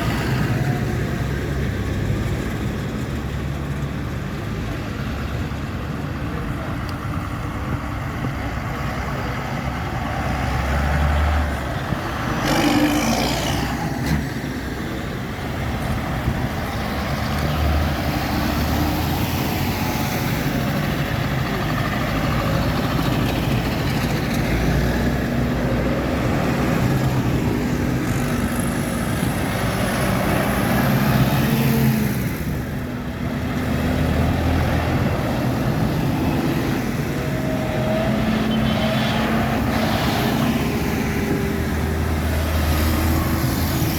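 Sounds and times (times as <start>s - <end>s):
tractors passing by: 0.0s - 43.9s.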